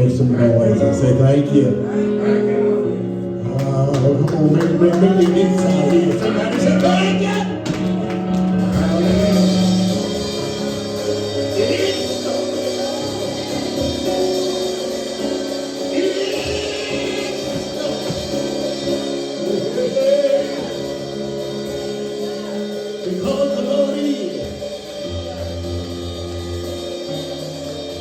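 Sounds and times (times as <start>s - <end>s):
guitar: 0.0s - 28.0s
keyboard chords: 0.0s - 28.0s
person singing: 0.0s - 28.0s
drums playing: 3.6s - 28.0s.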